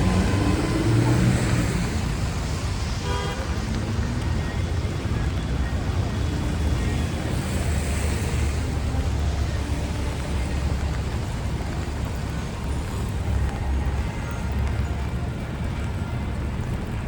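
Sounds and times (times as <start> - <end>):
city traffic rumble: 0.0 - 17.0
tyres hissing on wet road: 0.0 - 17.0.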